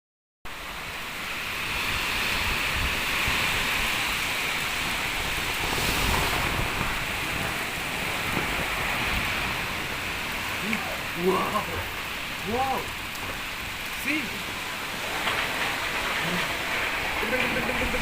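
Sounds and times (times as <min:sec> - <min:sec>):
strong wind blowing: 0:00.6 - 0:18.0
wind buffeting microphone: 0:00.9 - 0:18.0.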